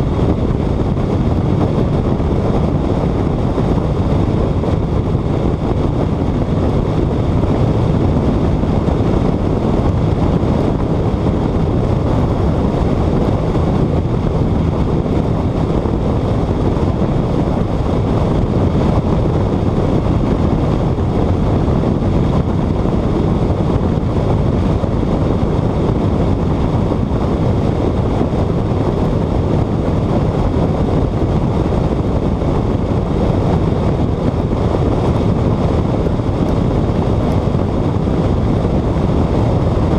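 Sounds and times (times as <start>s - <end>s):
car engine drone: 0.0s - 39.9s
wind and road noise: 0.0s - 39.9s.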